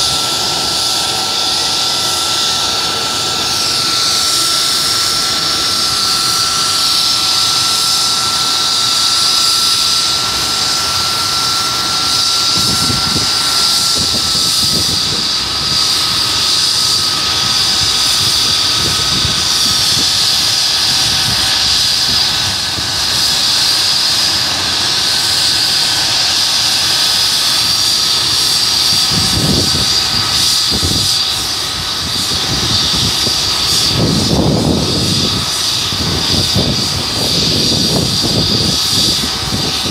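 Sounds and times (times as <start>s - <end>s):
helicopter turbine whine: 0.0s - 39.9s
low rumbling gusts: 0.0s - 39.9s.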